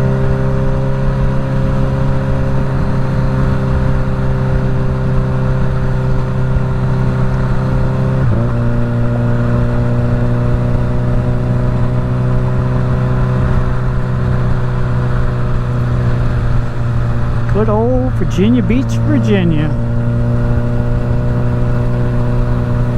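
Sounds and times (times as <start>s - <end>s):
wind rumble on microphone: 0.0s - 17.6s, 19.9s - 22.9s
motorcycle engine cruising: 0.0s - 22.9s.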